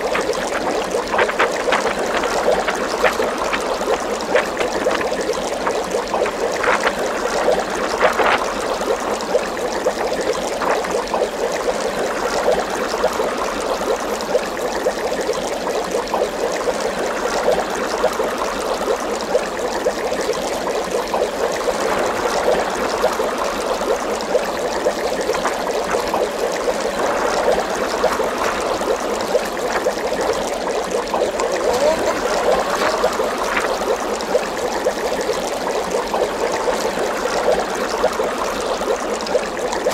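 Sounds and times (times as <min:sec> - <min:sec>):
bubbling trickling water: 0:00.0 - 0:39.9.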